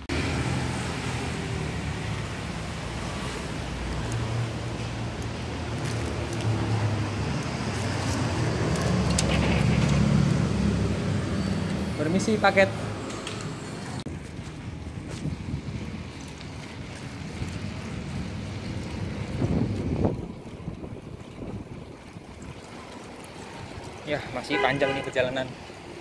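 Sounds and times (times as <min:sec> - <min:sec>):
vehicle engines running: 0:00.0 - 0:26.0.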